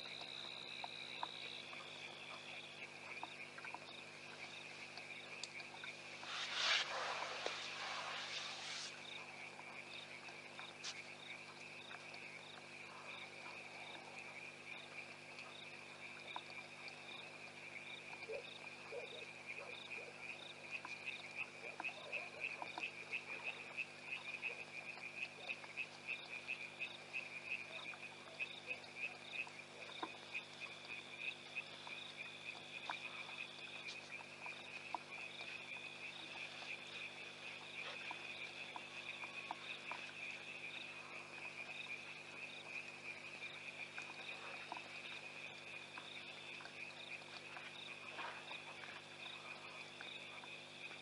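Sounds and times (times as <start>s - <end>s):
frogs trilling: 0.0s - 51.0s.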